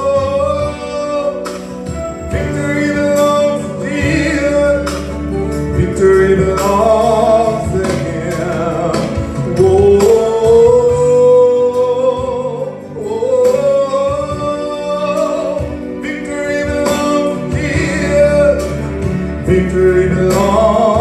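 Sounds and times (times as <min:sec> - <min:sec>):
man singing into a microphone: 0:00.0 - 0:21.0
recorded backing music: 0:00.0 - 0:21.0.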